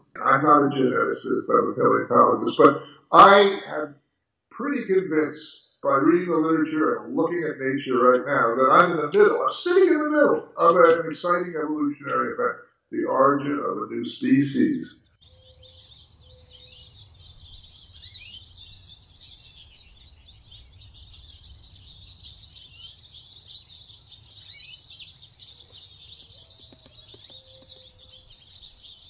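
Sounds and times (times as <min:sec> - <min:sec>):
small birds chirping: 0:00.0 - 0:03.9, 0:04.5 - 0:29.0.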